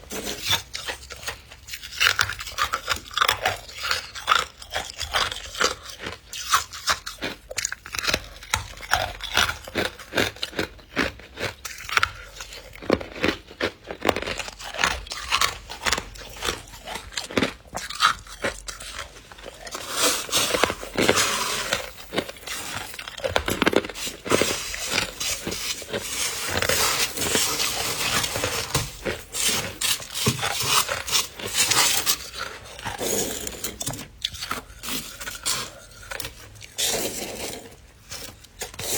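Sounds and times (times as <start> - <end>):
freezer frost being scraped: 0.0 - 7.1, 13.8 - 38.9.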